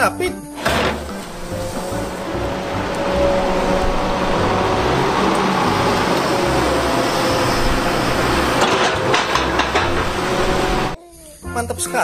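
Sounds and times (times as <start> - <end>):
excavator diesel engine and hydraulics: 0.5 - 11.0
knocks: 0.6 - 11.0.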